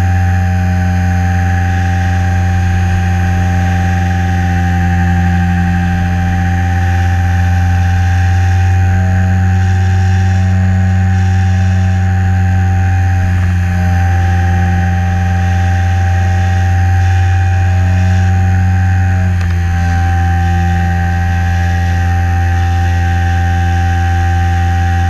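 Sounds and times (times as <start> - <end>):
model plane electric motor humming: 0.0 - 25.0.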